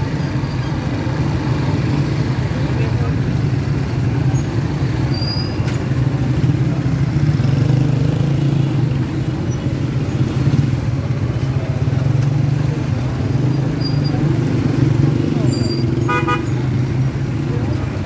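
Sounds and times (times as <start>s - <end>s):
street noise: 0.0s - 18.0s.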